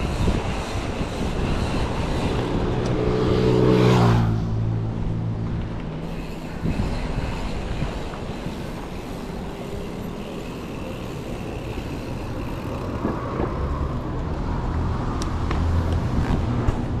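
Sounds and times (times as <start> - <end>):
wind rushing on microphone: 0.0 - 10.3, 11.7 - 17.0
bike tyre noise on asphalt: 0.0 - 17.0.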